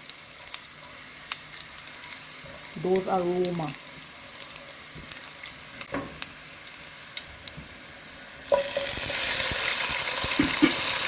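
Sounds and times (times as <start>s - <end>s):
ginger and garlic sizzling in oil: 0.0s - 11.0s.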